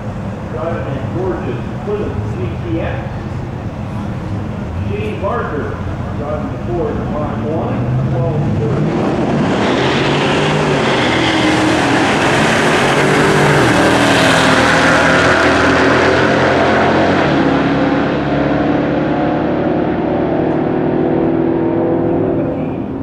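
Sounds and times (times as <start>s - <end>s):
cars accelerating at full throttle: 3.7s - 23.0s.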